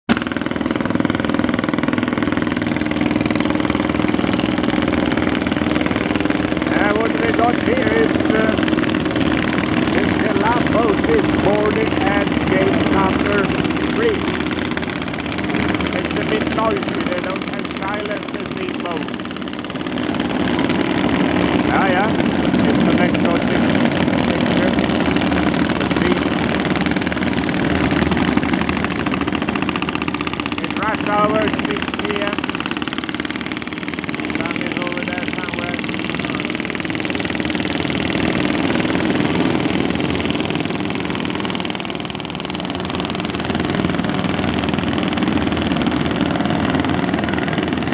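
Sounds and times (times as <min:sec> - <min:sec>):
boat engine idling: 0:00.1 - 0:47.9.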